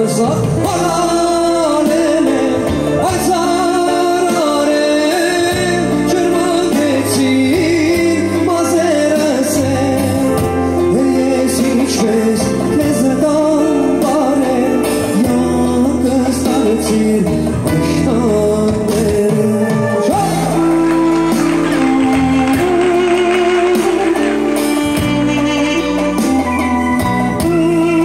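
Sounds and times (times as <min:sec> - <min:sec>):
electronic keyboard: 0:00.0 - 0:28.0
man singing: 0:00.0 - 0:28.0.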